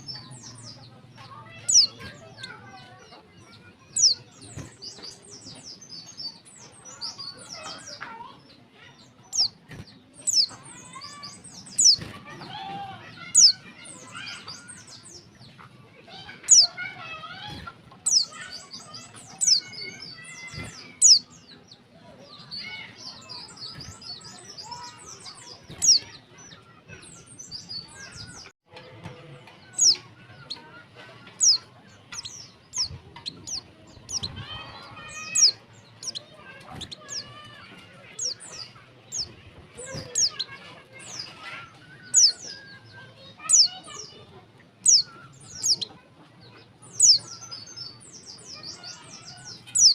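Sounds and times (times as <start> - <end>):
bird chirping and twittering: 0.0 - 49.9.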